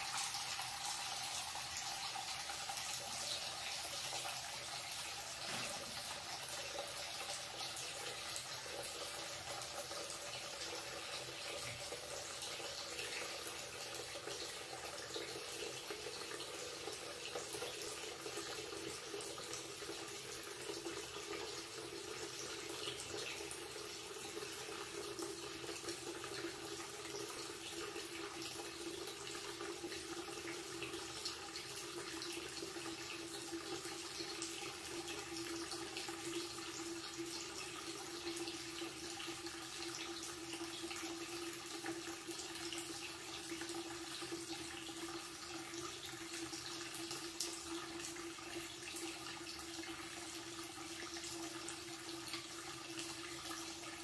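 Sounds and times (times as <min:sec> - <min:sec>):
tap water splashing into basin: 0:00.0 - 0:54.0.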